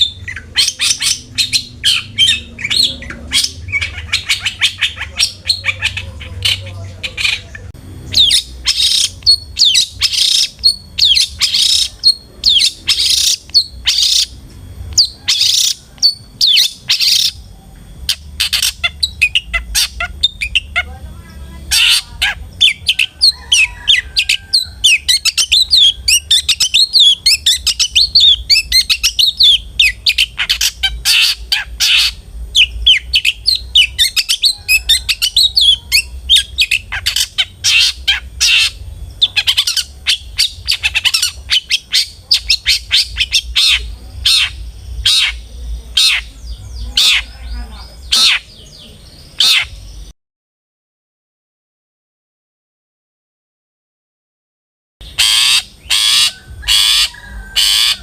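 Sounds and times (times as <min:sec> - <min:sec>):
bird harsh rasping calls: 0:00.0 - 0:14.4, 0:15.0 - 0:50.1, 0:55.0 - 0:58.0
bird twittering chatter: 0:00.0 - 0:50.1, 0:55.0 - 0:58.0.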